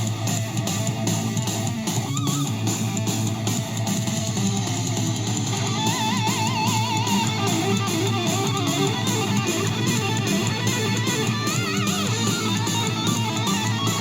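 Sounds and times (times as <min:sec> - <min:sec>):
rock music from small speaker: 0:00.0 - 0:14.0.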